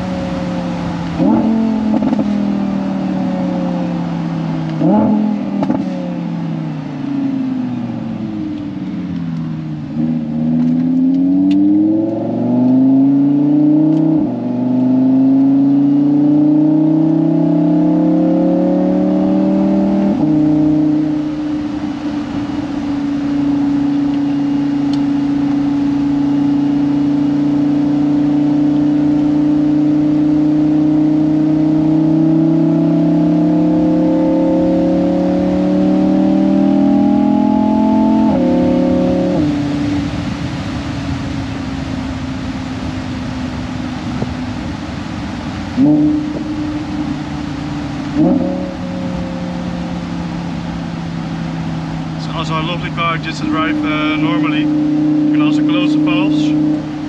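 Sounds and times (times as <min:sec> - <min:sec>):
sports car engine revving: 0:00.0 - 0:57.0.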